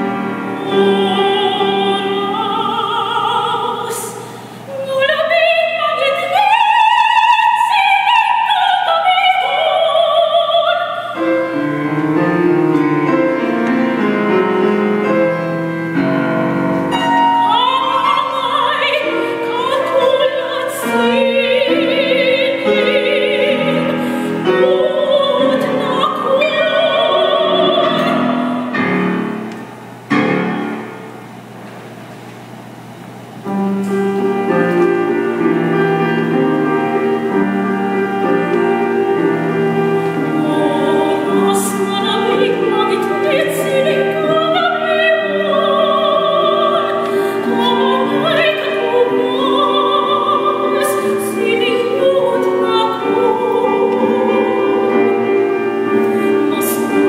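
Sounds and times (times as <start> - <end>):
woman singing opera: 0.0 - 15.4, 16.9 - 29.4, 33.9 - 57.0
grand piano: 0.0 - 57.0.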